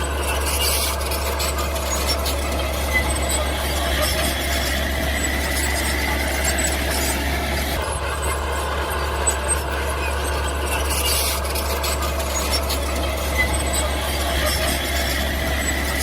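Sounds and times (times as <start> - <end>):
mini bulldozer running: 0.0 - 16.0.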